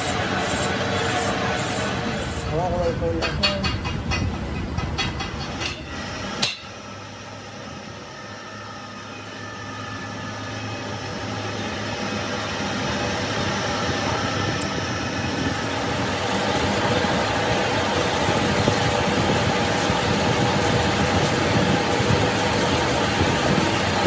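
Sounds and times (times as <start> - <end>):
metal lathe humming and whining: 0.0 - 3.0, 5.9 - 24.0.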